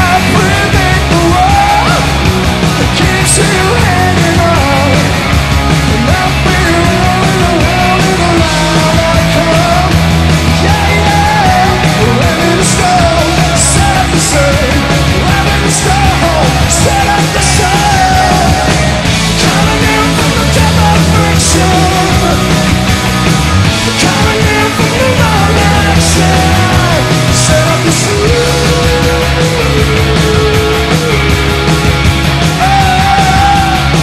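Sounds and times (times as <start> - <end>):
man singing: 0.0 - 22.9, 23.7 - 34.0
punk rock band playing: 0.0 - 34.0.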